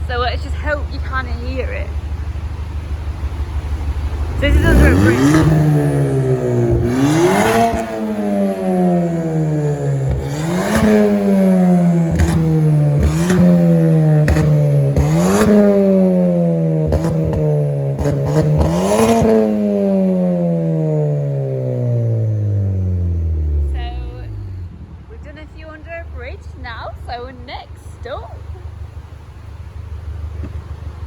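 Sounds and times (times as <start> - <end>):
car engine revving: 0.0 - 31.0
exhaust pops and crackles: 0.0 - 31.0.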